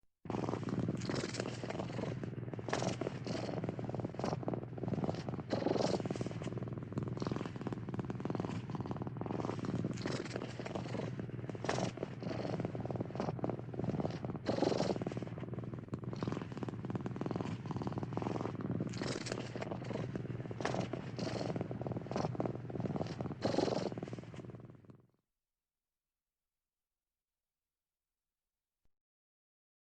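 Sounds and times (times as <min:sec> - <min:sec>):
cat purring: 0:00.3 - 0:25.2.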